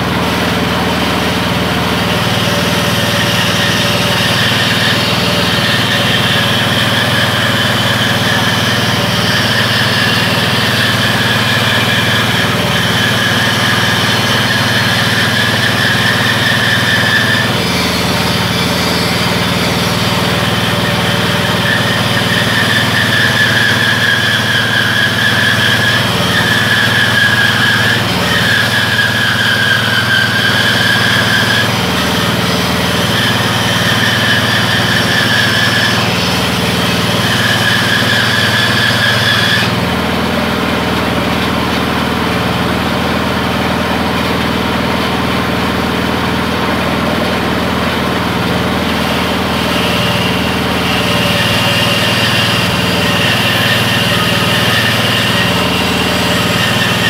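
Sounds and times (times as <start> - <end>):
bandsaw blade whine: 0.0 - 57.0
small petrol engine running: 0.0 - 57.0.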